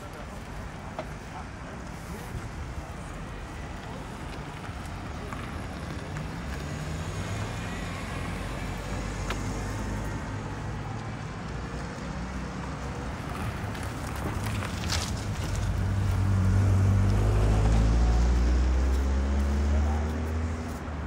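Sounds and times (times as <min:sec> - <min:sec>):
passing road traffic: 0:00.0 - 0:21.0.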